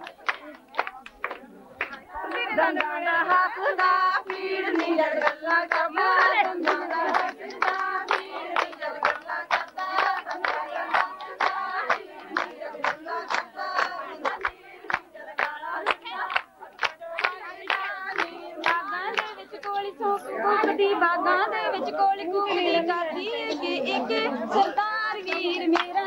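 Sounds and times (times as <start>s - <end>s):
rhythmic hand clapping: 0.0s - 22.1s, 23.0s - 26.0s
women singing together: 0.0s - 26.0s.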